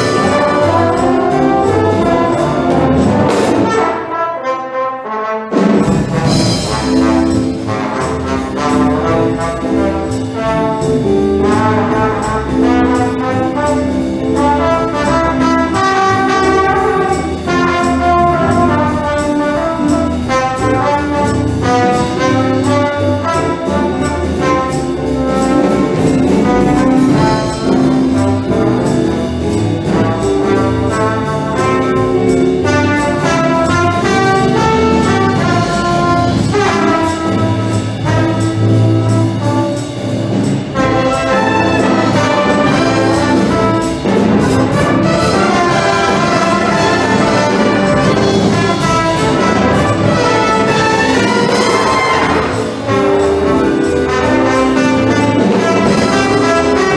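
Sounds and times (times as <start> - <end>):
brass section playing swing: 0.0 - 56.9
ticking beat: 5.8 - 56.9.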